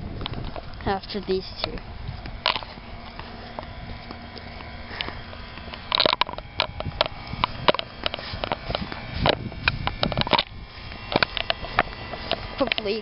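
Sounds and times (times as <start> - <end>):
faint steady hum: 0.0 - 13.0
low rumble: 0.0 - 13.0
clicks scuffs and scrapes: 1.6 - 13.0.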